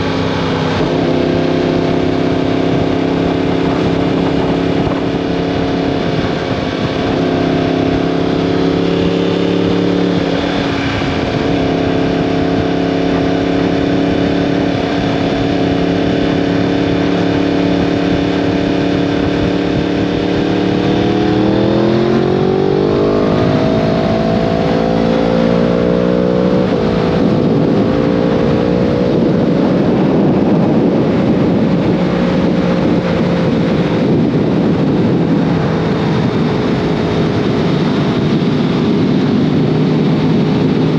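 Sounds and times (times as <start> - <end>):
motorcycle engine accelerating: 0.0 - 40.9
rushing noise: 0.0 - 40.9.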